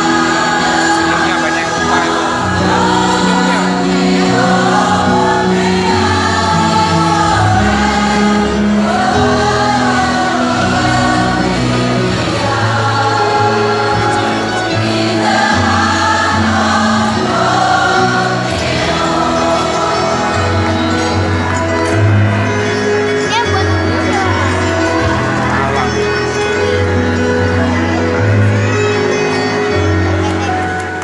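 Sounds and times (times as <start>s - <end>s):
mixed choir singing: 0.0s - 28.7s.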